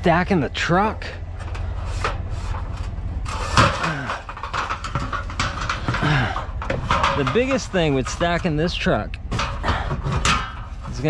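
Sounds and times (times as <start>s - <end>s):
steady low rumble: 0.0s - 11.0s
items knocking and clattering: 1.4s - 11.0s.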